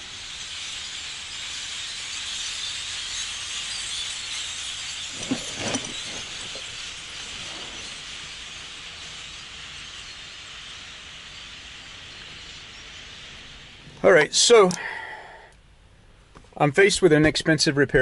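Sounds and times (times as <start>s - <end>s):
flock of birds calling: 0.0s - 16.9s.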